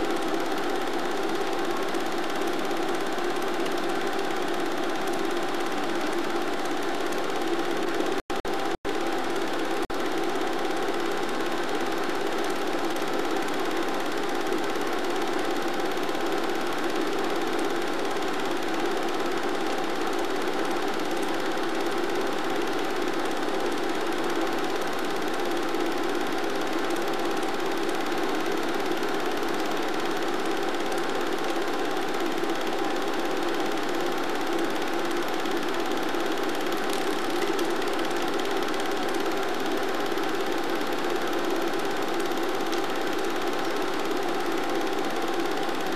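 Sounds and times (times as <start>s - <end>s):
film projector whirring clatter: 0.0s - 45.9s.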